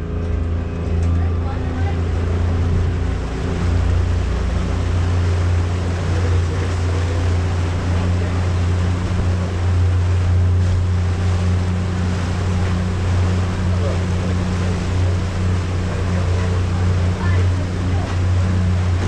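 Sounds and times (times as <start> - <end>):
ferry engine humming: 0.0 - 19.0
water rushing: 0.0 - 19.0
wind: 0.0 - 19.0.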